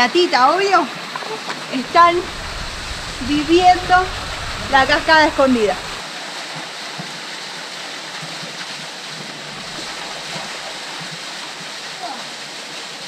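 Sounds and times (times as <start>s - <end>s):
small waterfall splashing: 0.8s - 13.0s.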